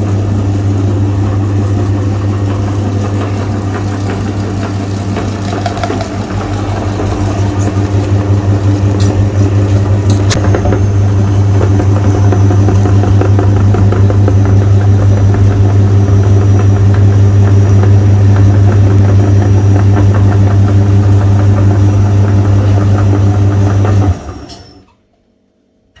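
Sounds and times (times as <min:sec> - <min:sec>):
meat grinder motor humming: 0:00.0 - 0:24.8.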